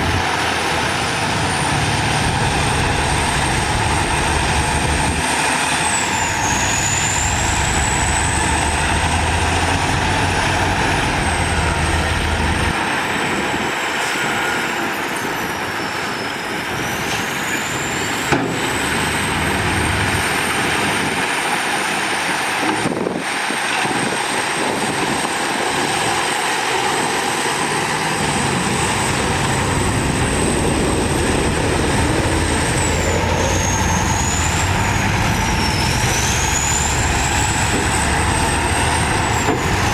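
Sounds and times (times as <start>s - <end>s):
diesel machinery engine rumble: 0.0s - 39.9s.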